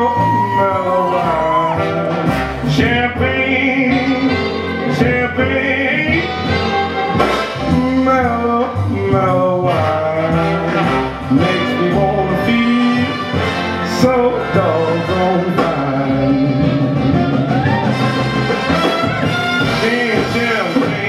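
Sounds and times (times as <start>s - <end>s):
melodic music with bass: 0.0s - 21.0s.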